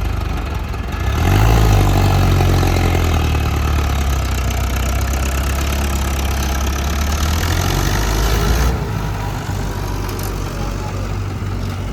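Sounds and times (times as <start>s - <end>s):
diesel engine idling: 0.0s - 11.9s.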